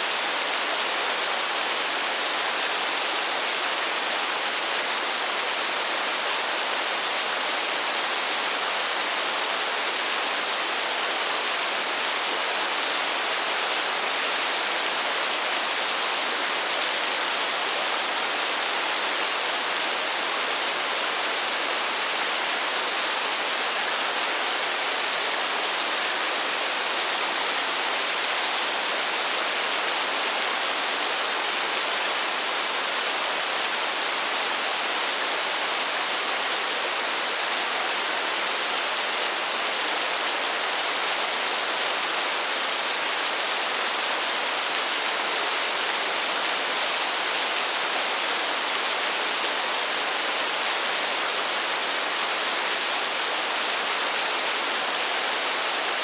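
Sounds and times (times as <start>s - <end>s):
steady rain in a forest: 0.0s - 56.0s.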